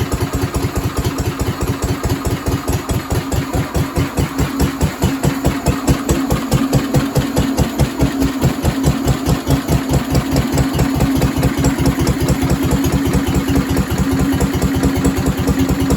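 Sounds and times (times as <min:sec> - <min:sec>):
stationary engine thumping: 0:00.0 - 0:15.9.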